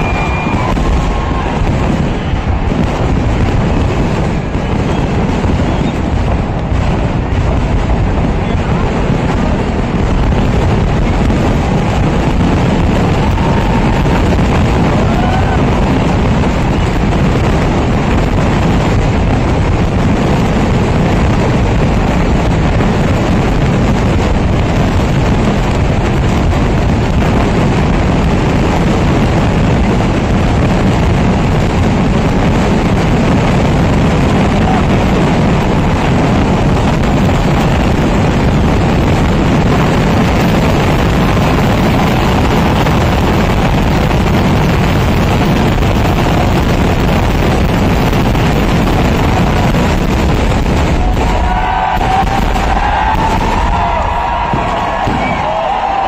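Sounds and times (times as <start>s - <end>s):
fireworks exploding: 0.0s - 56.0s.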